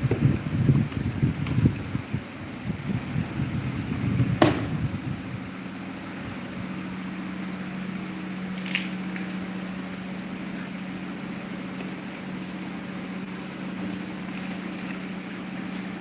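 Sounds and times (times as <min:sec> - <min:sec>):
fan airflow buffeting microphone: 0:00.0 - 0:16.0
fan motor hum: 0:00.0 - 0:16.0.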